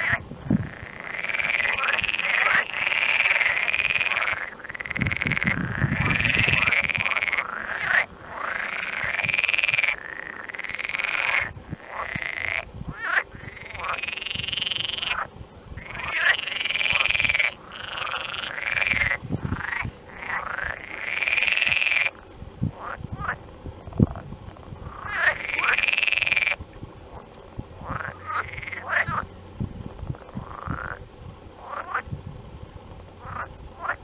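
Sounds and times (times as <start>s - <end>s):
frogs calling: 0.0s - 27.2s, 27.8s - 29.4s, 30.1s - 32.1s, 33.2s - 34.0s.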